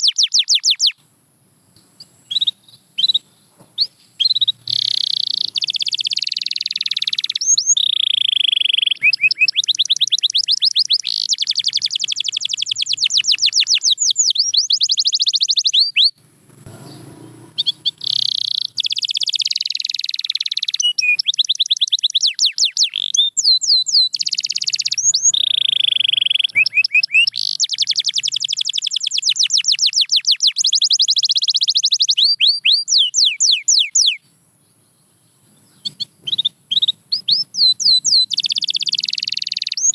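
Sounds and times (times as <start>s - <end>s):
canary singing: 0.0s - 1.0s, 1.9s - 39.9s.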